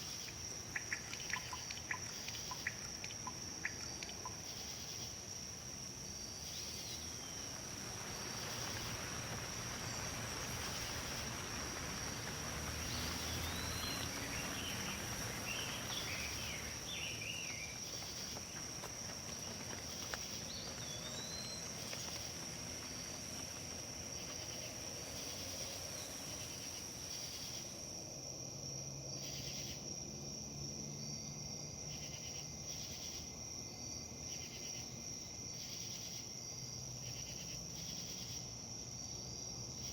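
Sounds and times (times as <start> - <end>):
wind rustling through leaves: 0.0 - 39.9.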